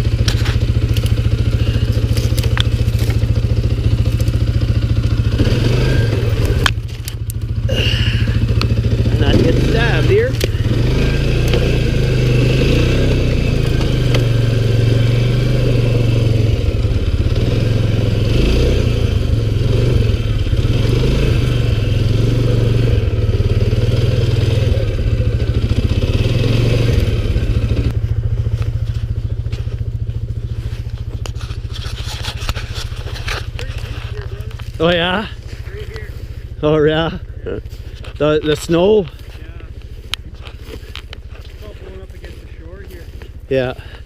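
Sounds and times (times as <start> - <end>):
quad engine running: 0.0 - 44.0.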